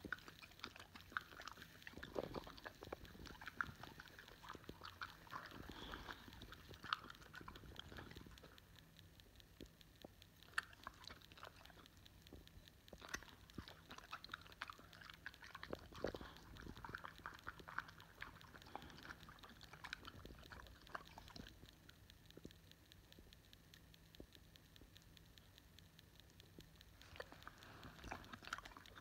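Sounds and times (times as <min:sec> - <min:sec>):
dog licking and smacking lips: 0:00.0 - 0:22.6, 0:26.9 - 0:29.0.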